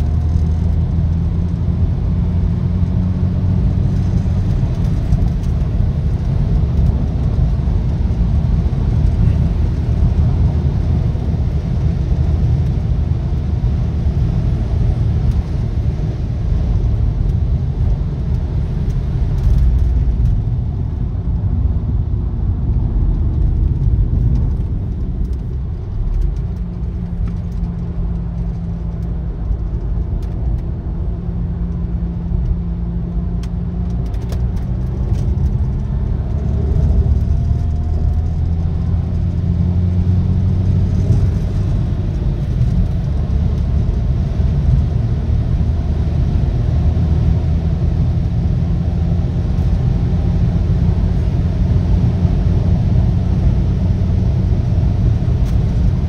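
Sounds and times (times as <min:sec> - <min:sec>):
car engine and road noise drone: 0:00.0 - 0:56.0.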